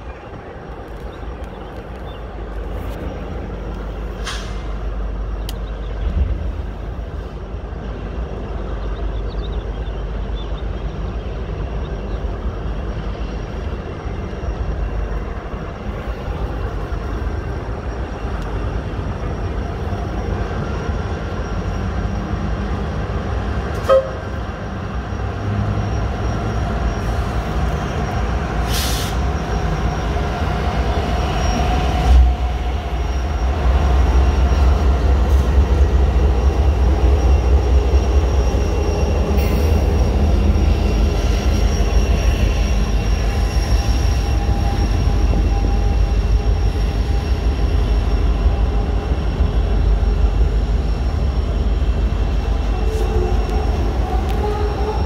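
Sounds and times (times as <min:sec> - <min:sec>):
diesel locomotives running past: 0:00.0 - 0:55.0
freight train cars rumbling: 0:00.0 - 0:55.0.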